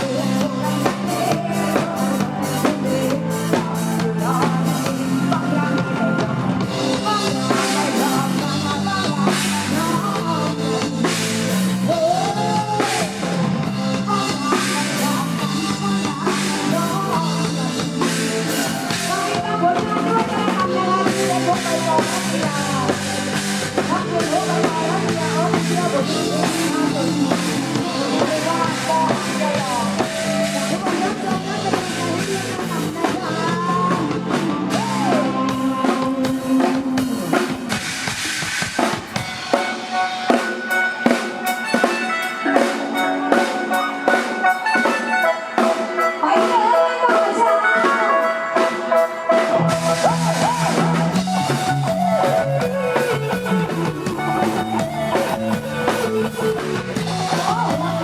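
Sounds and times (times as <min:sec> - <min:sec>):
bass line: 0:00.0 - 0:40.4, 0:49.2 - 0:58.0
drum kit beat: 0:00.0 - 0:58.0
live band music: 0:00.0 - 0:58.0.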